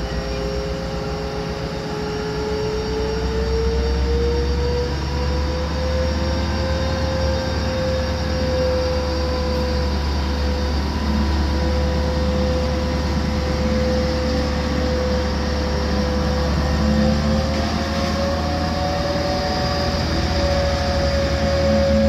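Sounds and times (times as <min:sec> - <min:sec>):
locomotive engine rumble: 0:00.0 - 0:22.0
rising engine whine: 0:00.0 - 0:22.0.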